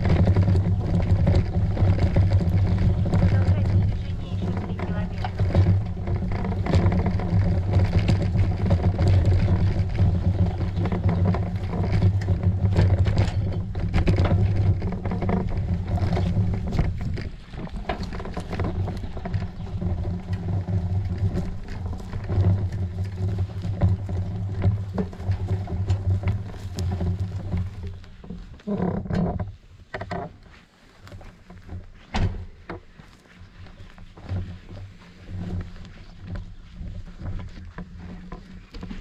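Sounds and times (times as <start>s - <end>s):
bicycle riding on dirt track: 0.0s - 39.0s
rattles and knocks from bumps: 0.0s - 39.0s.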